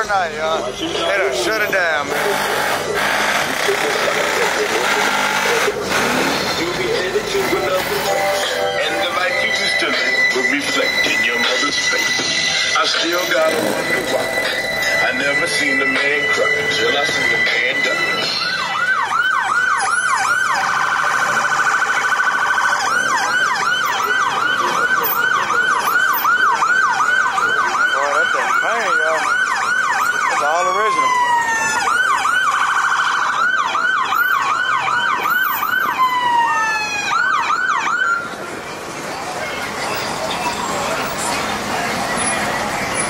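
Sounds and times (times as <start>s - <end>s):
electronic siren yelping: 1.9s - 38.3s.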